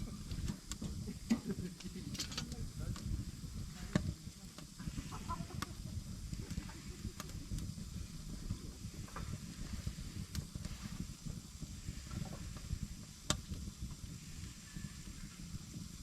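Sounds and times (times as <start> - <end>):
fire popping: 0.0 - 16.0
low rumble: 0.0 - 16.0
wood fire burning: 0.0 - 16.0.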